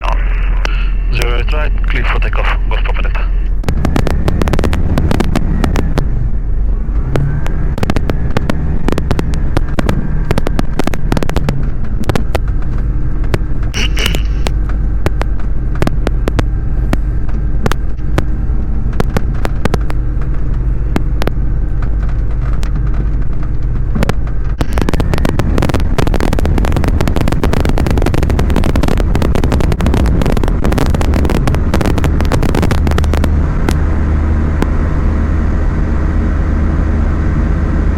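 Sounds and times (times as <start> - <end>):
small plane engine droning: 0.0 - 37.9
sharp crackling clicks: 0.6 - 6.2, 6.9 - 33.9.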